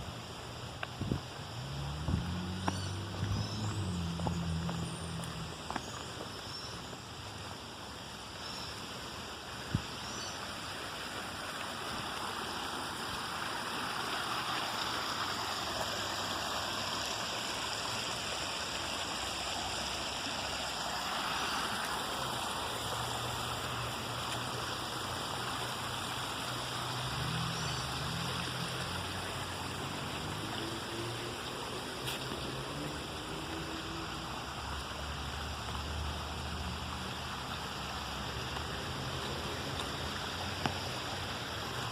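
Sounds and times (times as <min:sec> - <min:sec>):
water rushing over a cascade: 0:00.0 - 0:41.9.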